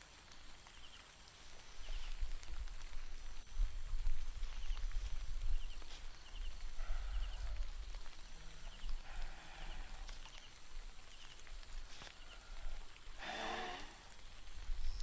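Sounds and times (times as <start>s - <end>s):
wind against tent: 0.0s - 15.0s.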